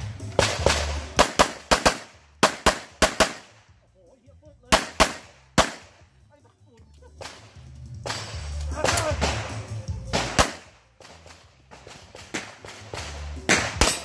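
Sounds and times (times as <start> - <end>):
music: 0.0 - 14.0
pistol shots: 0.3 - 3.6, 4.7 - 6.0, 7.2 - 14.0.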